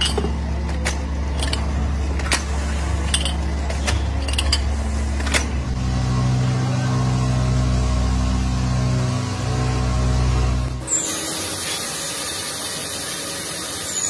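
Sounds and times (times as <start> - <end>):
workshop machine humming: 0.0 - 14.0.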